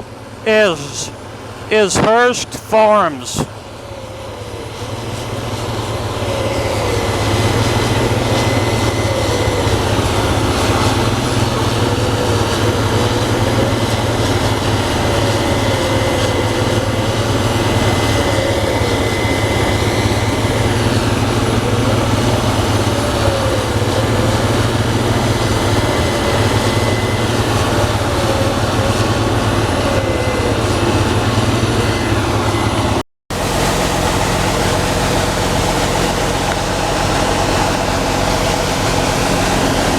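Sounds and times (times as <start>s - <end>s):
combine harvester diesel drone: 0.0s - 39.9s
high whine: 0.5s - 39.9s.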